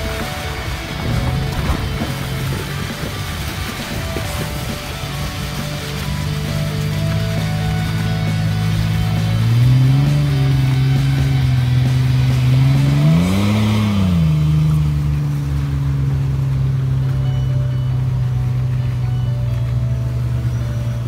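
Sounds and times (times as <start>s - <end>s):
vehicle engine running and revving: 0.0s - 21.0s.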